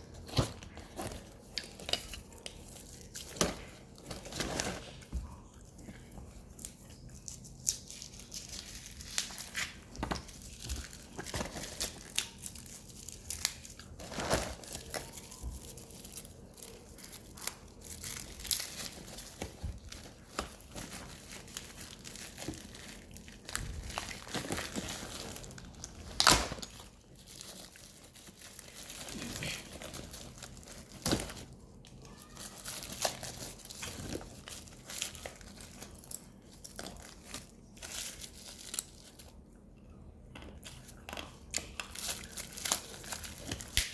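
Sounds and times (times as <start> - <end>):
packaging crinkling and tearing: 0.0 - 39.4, 40.6 - 43.9.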